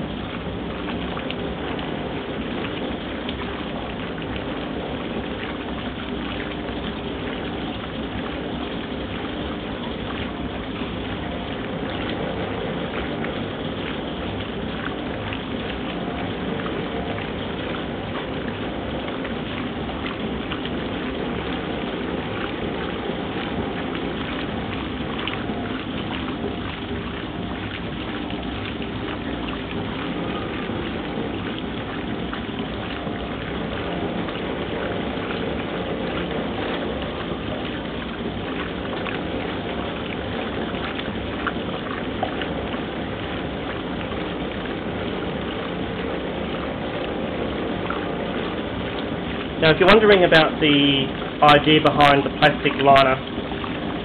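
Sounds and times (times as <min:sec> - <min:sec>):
washing machine motor running: 0:00.0 - 0:54.0
water and clothes sloshing: 0:00.0 - 0:54.0.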